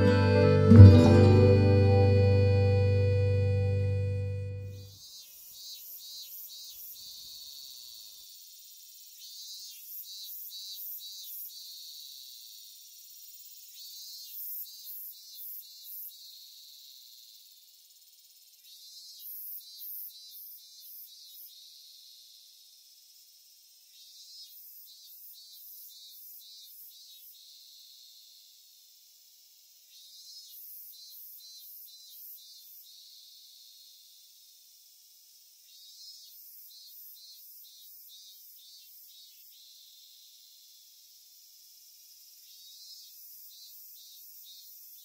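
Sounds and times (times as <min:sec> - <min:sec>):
high insect hiss: 0:05.0 - 0:45.0.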